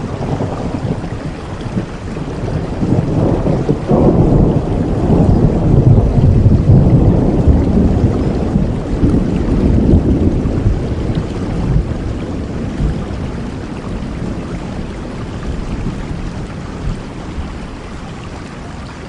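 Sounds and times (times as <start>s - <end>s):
thunder rumbling: 0.0s - 18.6s
heavy rain hissing: 0.0s - 19.0s.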